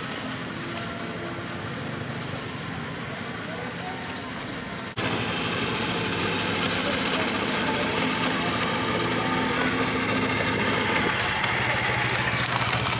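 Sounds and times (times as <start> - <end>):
tank engine running: 0.0 - 12.9.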